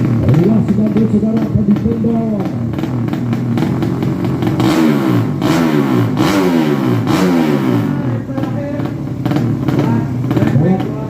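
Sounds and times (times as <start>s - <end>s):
motorcycle accelerating through gears: 0.0s - 11.0s.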